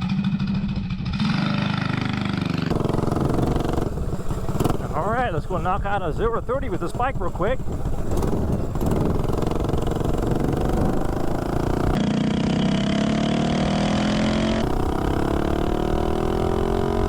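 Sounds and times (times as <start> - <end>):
mini bike engine accelerating: 0.0 - 17.0.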